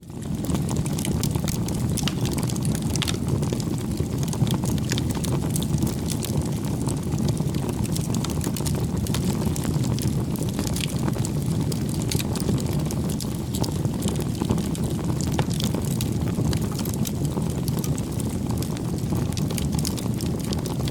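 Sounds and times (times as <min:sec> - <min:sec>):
fire crackling and popping: 0:00.0 - 0:20.9
flames rushing: 0:00.1 - 0:20.9.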